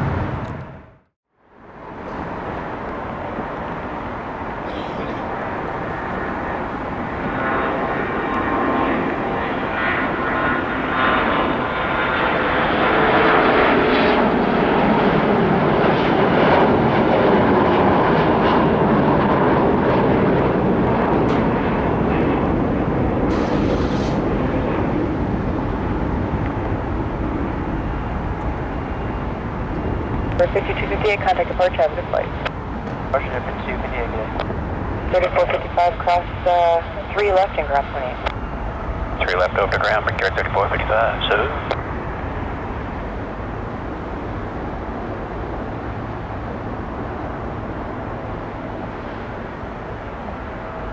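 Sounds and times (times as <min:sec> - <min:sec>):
jet airliner passing: 0:00.0 - 0:50.9.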